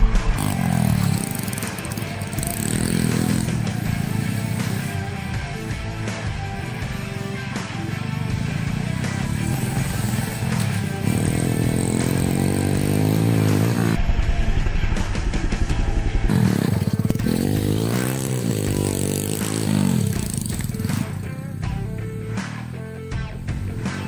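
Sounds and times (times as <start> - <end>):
motorcycle engine idling: 0.0 - 14.0, 16.3 - 24.0
motorcycle engine revving: 0.0 - 14.0, 15.6 - 24.0.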